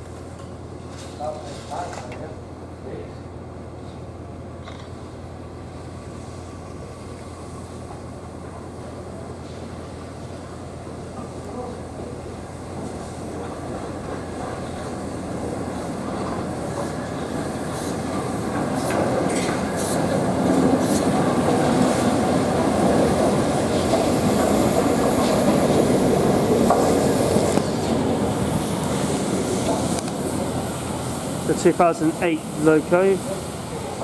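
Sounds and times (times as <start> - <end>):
train wheels rumbling: 3.8 - 34.0.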